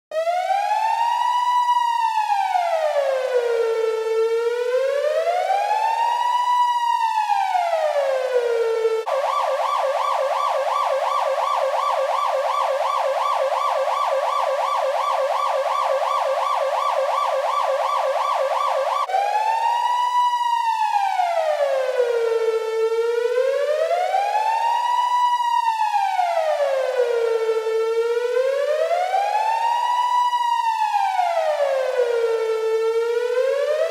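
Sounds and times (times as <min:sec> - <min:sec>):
police siren wailing and yelping: 0:00.2 - 0:33.9.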